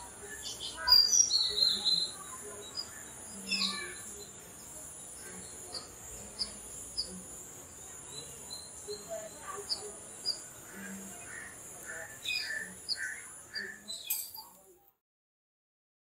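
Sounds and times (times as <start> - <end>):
steady high hiss: 0.0 - 14.5
birds chirping: 0.0 - 14.8.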